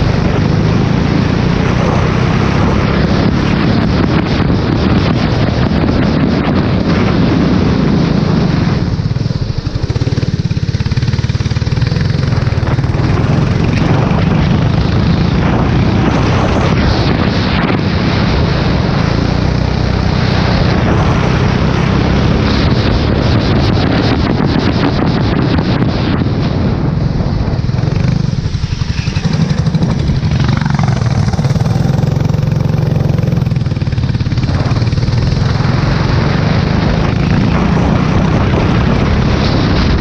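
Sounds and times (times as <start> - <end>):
race car engine at speed: 0.0 - 40.0
wind noise on microphone: 0.0 - 40.0.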